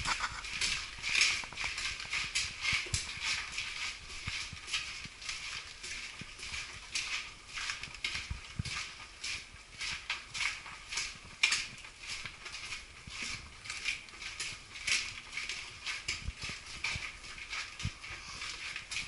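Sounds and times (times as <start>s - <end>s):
footsteps in concrete tunnel: 0.0s - 19.0s.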